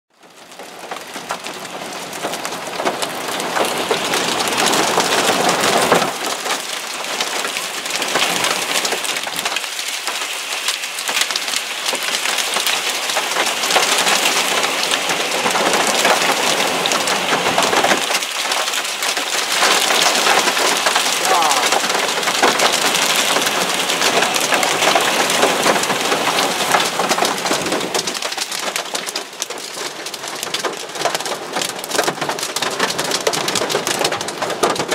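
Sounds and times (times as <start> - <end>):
heavy rain and hail: 0.2 - 34.9.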